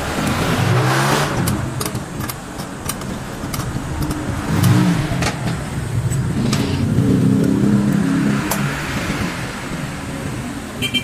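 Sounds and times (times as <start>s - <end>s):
engine running: 0.0s - 10.5s.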